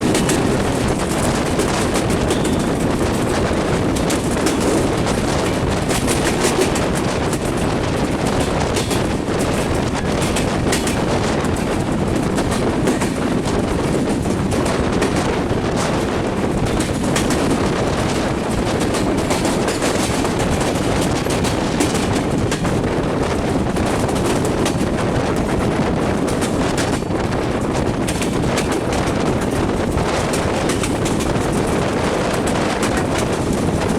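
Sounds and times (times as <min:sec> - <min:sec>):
train wheels rumbling on rails: 0:00.0 - 0:33.9
wheels clicking over rail joints: 0:00.0 - 0:33.9.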